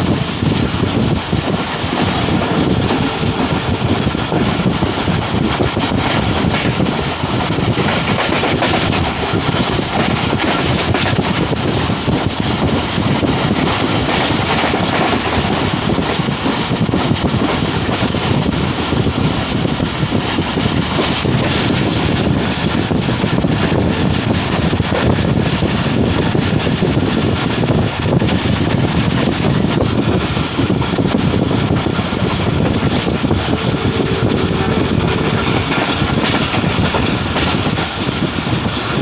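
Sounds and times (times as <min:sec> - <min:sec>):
passenger train running: 0:00.0 - 0:39.0
wind buffeting microphone: 0:00.0 - 0:39.0.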